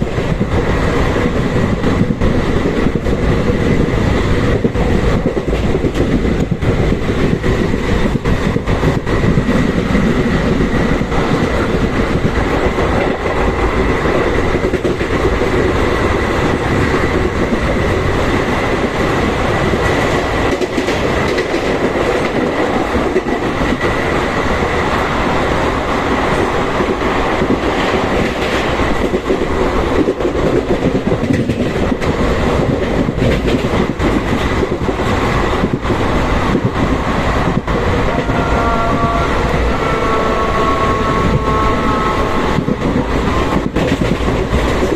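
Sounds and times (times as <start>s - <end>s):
train wheels clattering over rail joints: 0.0s - 25.0s, 26.0s - 39.8s, 40.4s - 44.9s.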